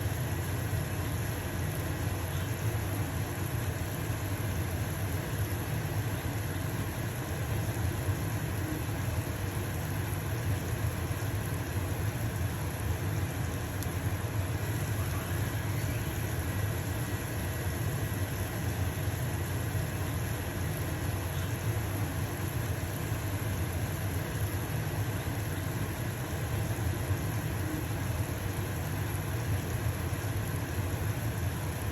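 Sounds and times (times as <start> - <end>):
pancake sizzling in frying pan: 0.0 - 31.9
range hood fan droning: 0.0 - 31.9.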